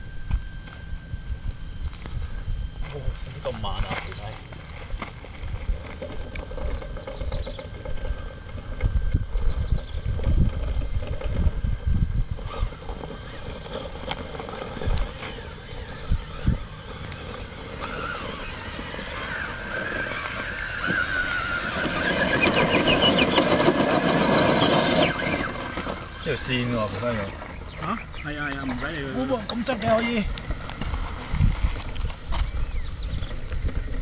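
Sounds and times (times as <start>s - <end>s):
toy car motor whine: 0.0s - 34.0s.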